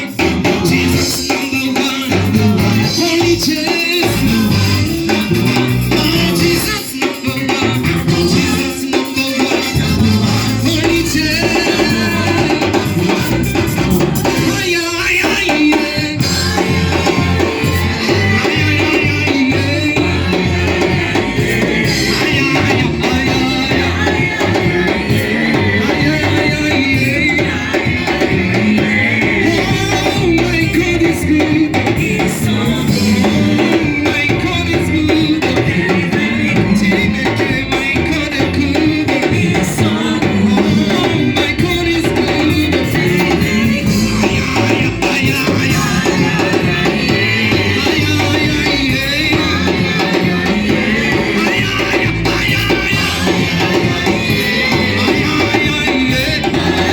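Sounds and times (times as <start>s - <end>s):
band with drum kit: 0.0s - 56.9s
voices singing worship music: 0.0s - 56.9s.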